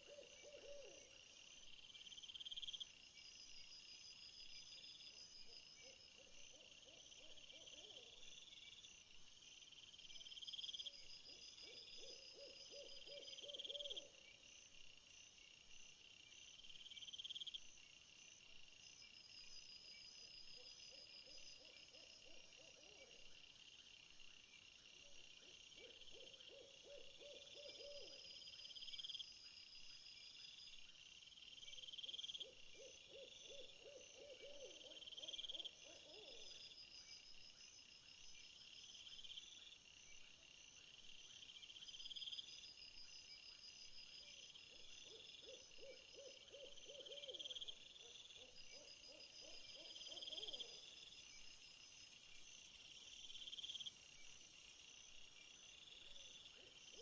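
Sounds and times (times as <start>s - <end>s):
insects chirping: 0.0s - 57.0s
low pulsed insect trill: 0.0s - 57.0s.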